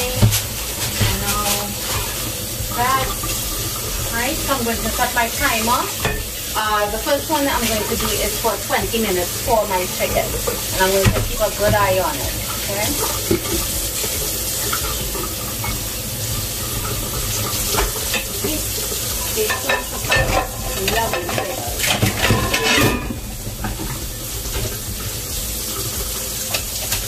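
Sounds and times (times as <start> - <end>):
pots and pans clattering: 0.0 - 27.0
sizzling hiss: 0.0 - 27.0.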